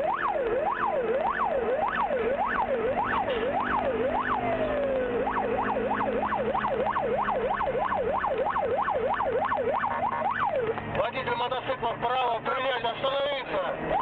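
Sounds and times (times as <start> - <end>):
police siren wailing and yelping: 0.0 - 11.5, 13.0 - 14.0
engine hum: 0.0 - 14.0.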